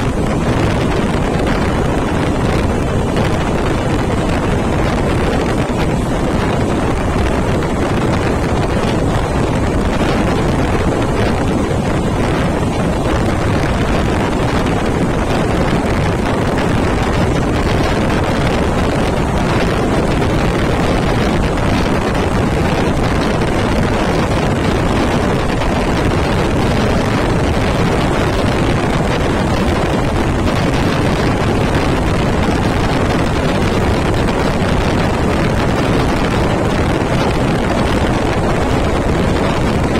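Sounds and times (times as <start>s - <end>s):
train running on rails: 0.0s - 39.9s
wind rushing over microphone: 0.0s - 39.9s.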